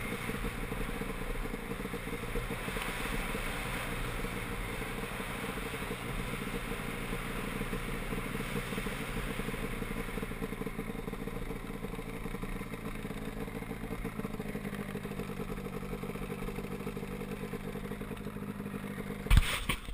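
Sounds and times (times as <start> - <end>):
snowmobile engine idling: 0.0 - 19.9.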